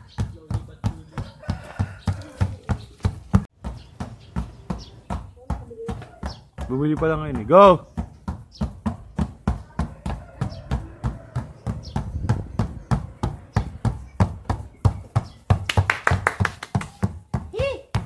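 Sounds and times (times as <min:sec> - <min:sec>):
basketballs bouncing on concrete: 0:00.0 - 0:18.0.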